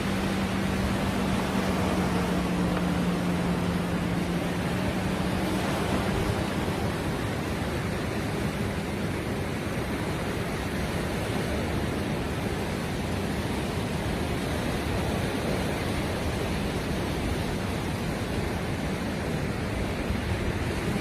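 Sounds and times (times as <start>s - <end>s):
sea surf rushing: 0.0s - 21.0s
wind at shoreline: 0.0s - 21.0s.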